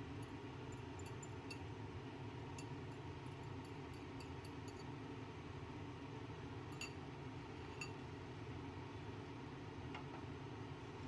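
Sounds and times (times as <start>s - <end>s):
low gas burner noise: 0.0s - 11.0s.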